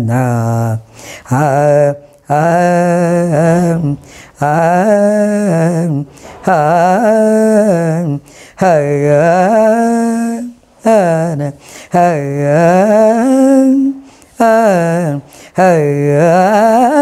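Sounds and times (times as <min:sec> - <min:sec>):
elderly woman singing unaccompanied: 0:00.0 - 0:17.0.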